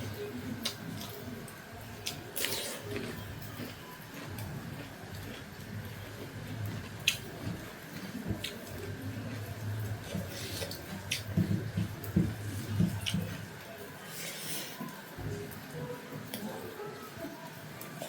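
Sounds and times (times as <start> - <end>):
chewing and wet mouth sounds: 0.2 - 16.6.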